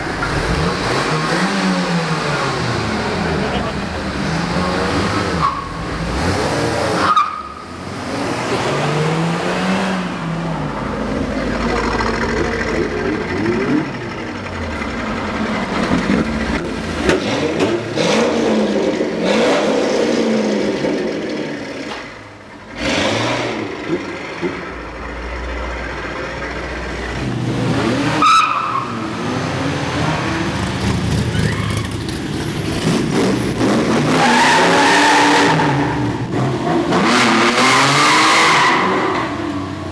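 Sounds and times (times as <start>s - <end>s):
car engines revving and accelerating: 0.0s - 39.9s.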